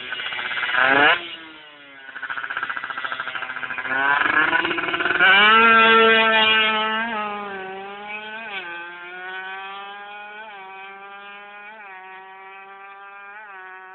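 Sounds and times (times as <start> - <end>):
motorcycle engine buzzing: 0.0 - 13.9.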